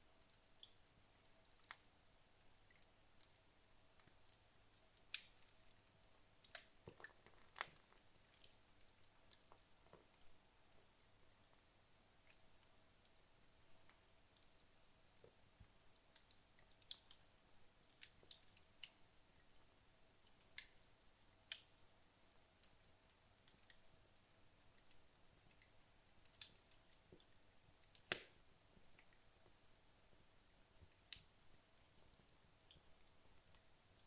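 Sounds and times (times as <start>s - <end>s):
faint hiss: 0.0s - 34.0s
logs crackling in a fireplace: 0.0s - 34.0s.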